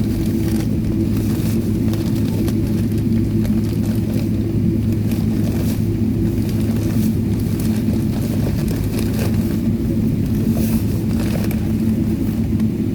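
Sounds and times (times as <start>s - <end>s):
airplane cabin rumble: 0.0s - 12.9s.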